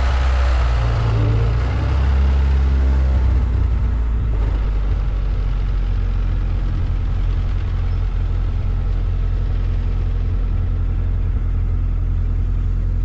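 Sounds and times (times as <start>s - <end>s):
tractor engine running steadily: 0.0s - 13.0s.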